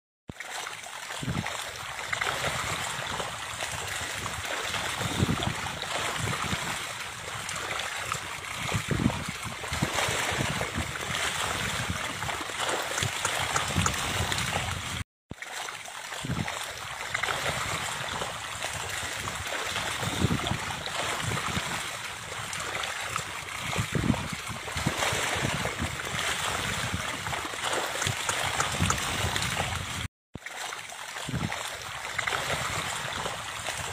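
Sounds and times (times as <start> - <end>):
shallow water splashing: 0.3 - 33.9.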